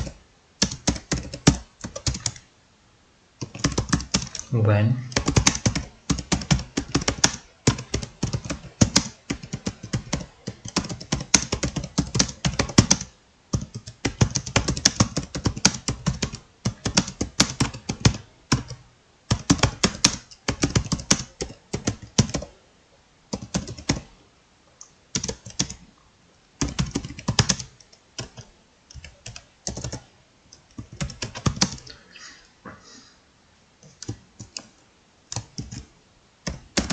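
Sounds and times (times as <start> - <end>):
keyboard typing: 0.0 - 2.4, 3.4 - 4.5, 5.1 - 22.5, 23.3 - 24.1, 24.8 - 25.8, 26.6 - 31.9, 33.8 - 36.9.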